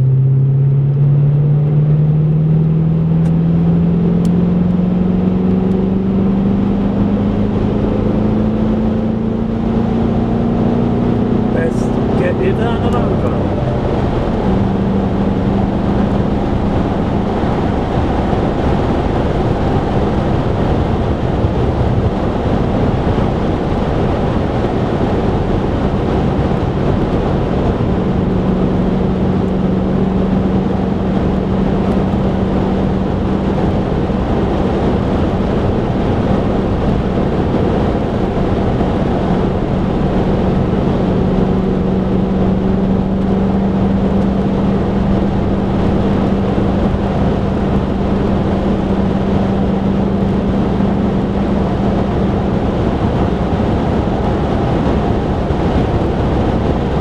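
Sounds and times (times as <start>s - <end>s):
low engine drone: 0.0s - 57.0s
tyre and road roar: 0.0s - 57.0s.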